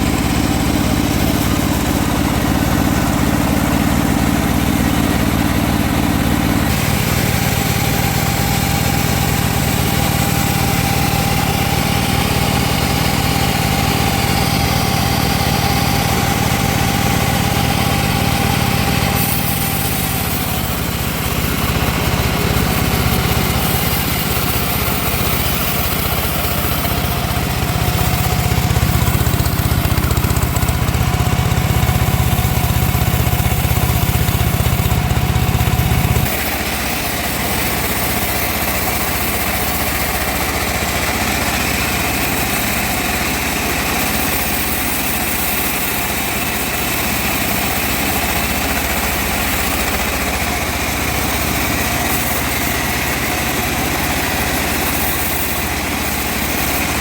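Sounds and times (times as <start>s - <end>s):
sawmill engine sawing wood: 0.0s - 57.0s.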